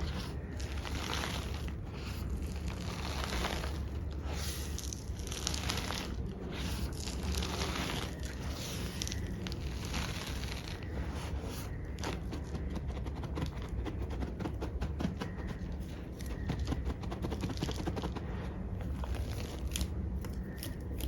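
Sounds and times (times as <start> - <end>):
hands scraping through chalk powder: 0.0 - 20.8.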